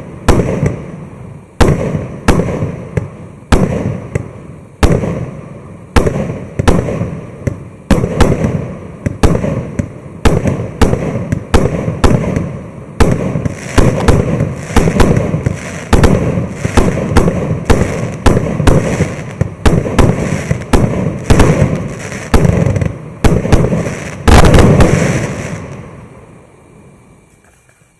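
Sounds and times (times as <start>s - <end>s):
fireworks bangs with rumble: 0.0s - 1.0s, 1.6s - 25.8s.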